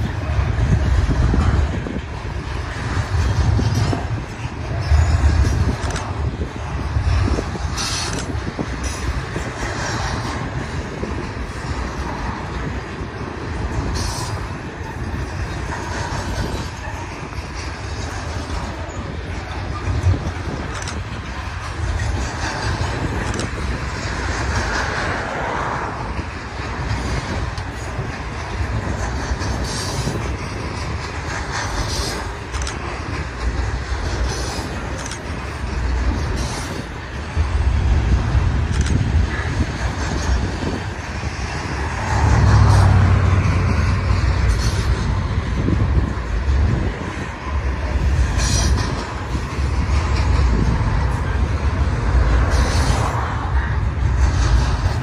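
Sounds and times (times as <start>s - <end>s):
sharp clicks from wheels: 0.0s - 55.0s
train wheels rumbling on rail: 0.0s - 55.0s.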